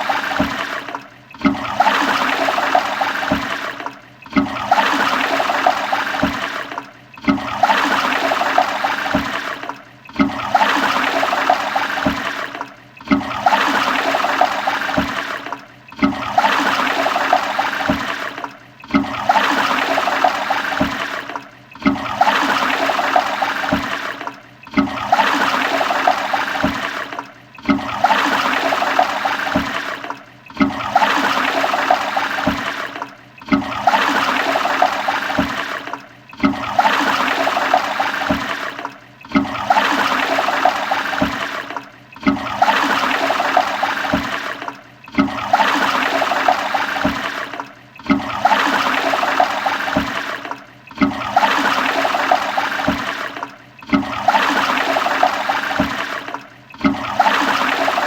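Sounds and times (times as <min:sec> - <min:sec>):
toilet flushing: 0:00.0 - 0:58.0.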